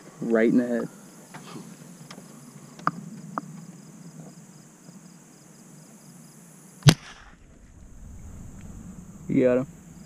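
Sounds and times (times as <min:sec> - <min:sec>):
high insect drone: 0:00.0 - 0:10.0
insects chirping: 0:00.0 - 0:10.0.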